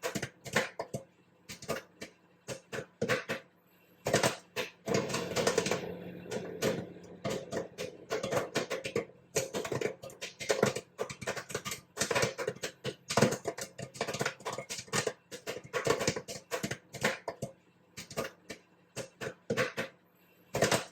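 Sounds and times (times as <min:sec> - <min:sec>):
popcorn popping: 0:00.0 - 0:20.9.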